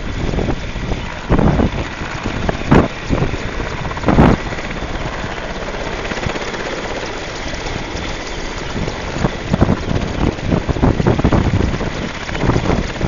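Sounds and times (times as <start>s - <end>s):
helicopter rotor and engines: 0.0s - 13.0s
wind gusts on microphone: 0.0s - 13.0s.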